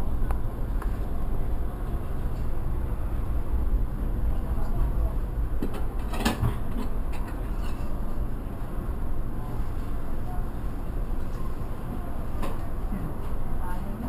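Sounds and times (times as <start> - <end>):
distant jet airliner rumble: 0.0 - 14.0.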